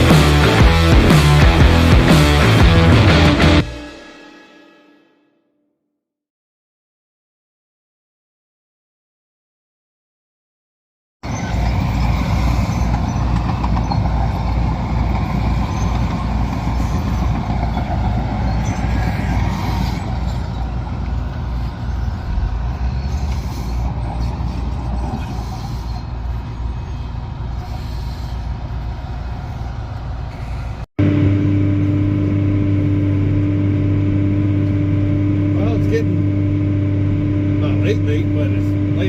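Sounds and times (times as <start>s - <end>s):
tractor diesel engine throbbing: 0.0s - 4.8s, 11.7s - 39.0s.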